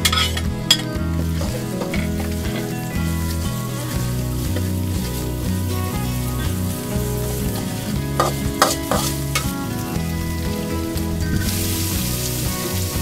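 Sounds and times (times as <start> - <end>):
food sizzling in hot oil: 0.0 - 13.0
spatula scraping wok: 0.0 - 13.0.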